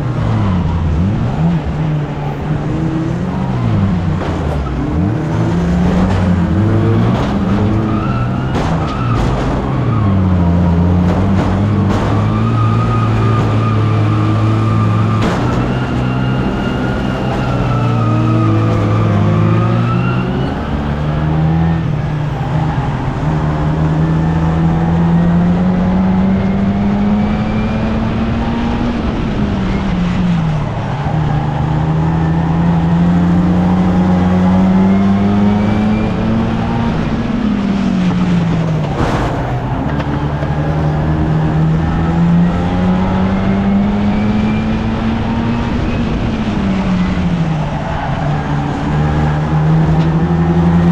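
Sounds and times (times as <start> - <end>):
car engine racing at full throttle: 0.0 - 50.9.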